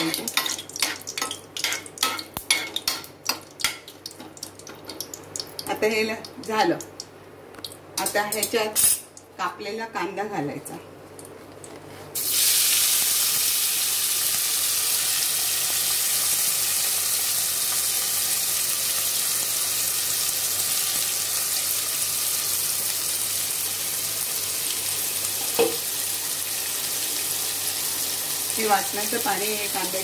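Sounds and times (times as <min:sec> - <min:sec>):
onion sizzling in hot oil: 0:00.0 - 0:06.6, 0:08.0 - 0:09.1, 0:12.2 - 0:30.0.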